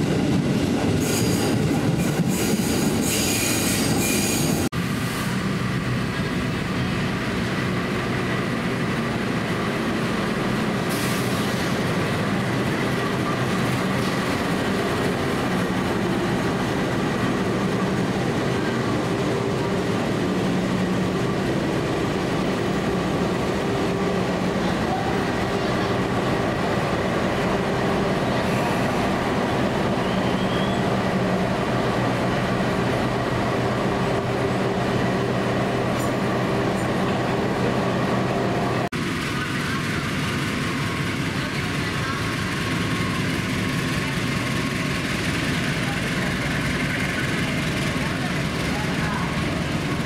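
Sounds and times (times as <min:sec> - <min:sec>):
diesel locomotive drone: 0:00.0 - 0:50.0
train coaches rolling by: 0:00.0 - 0:50.0.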